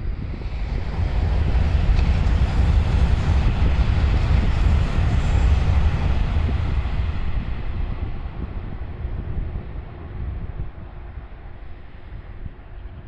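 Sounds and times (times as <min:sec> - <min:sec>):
high-speed train rushing past: 0:00.0 - 0:13.0.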